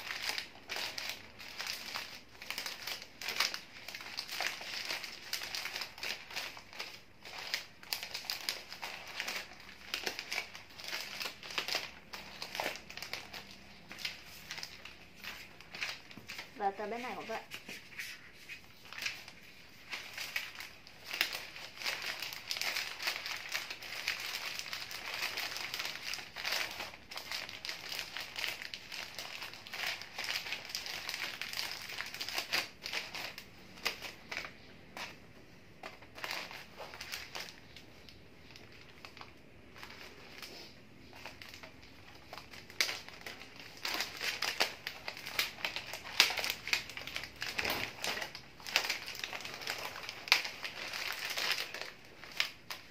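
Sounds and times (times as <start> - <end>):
wrapping paper rustling: 0.0 - 52.9.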